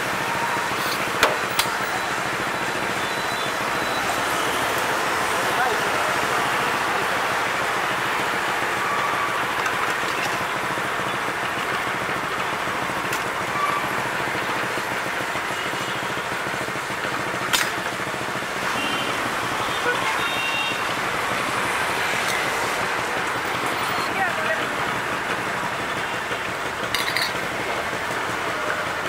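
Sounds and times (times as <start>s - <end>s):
cars and motorbikes passing: 0.0s - 29.0s.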